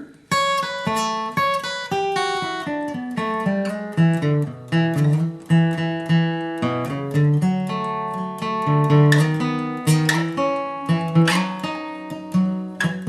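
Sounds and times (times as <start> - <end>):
acoustic guitar picking notes: 0.0 - 13.0.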